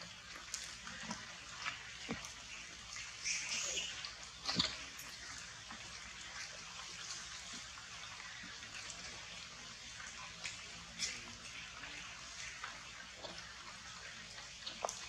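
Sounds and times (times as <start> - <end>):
water drips: 0.0 - 15.0.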